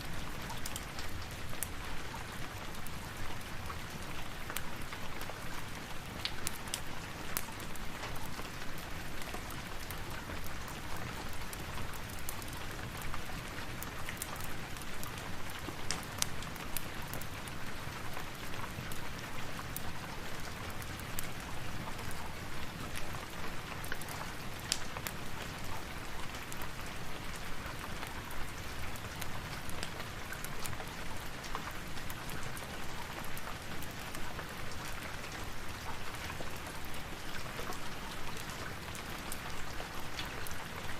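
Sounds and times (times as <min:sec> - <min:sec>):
rain falling: 0:00.0 - 0:40.9
wood fire crackling: 0:00.2 - 0:40.9.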